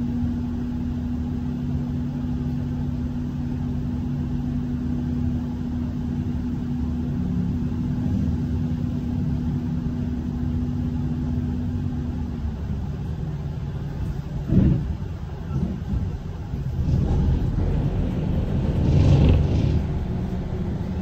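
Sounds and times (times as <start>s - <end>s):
bus engine idling: 0.0s - 21.0s
steady hum: 0.0s - 21.0s.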